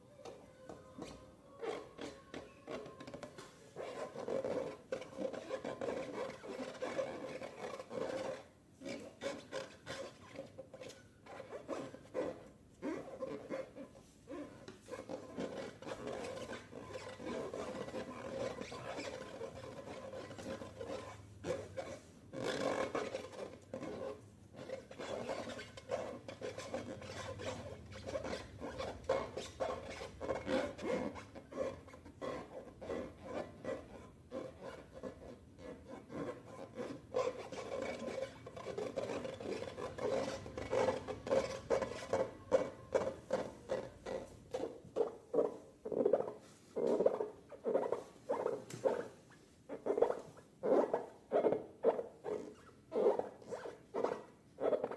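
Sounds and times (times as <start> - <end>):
hand rubbing slime: 0.8 - 54.9.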